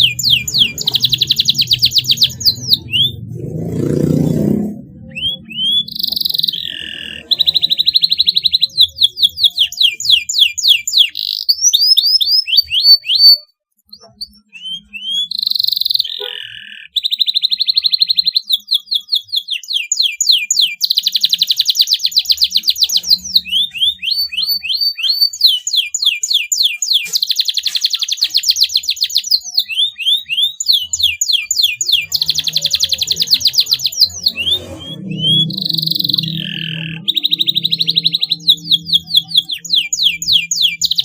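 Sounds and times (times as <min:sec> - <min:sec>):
canary singing: 0:00.0 - 0:41.0.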